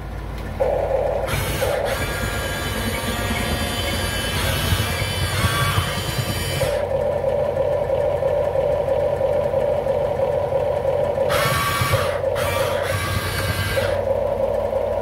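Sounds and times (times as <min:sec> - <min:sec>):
simulated excavator engine sound: 0:00.0 - 0:15.0.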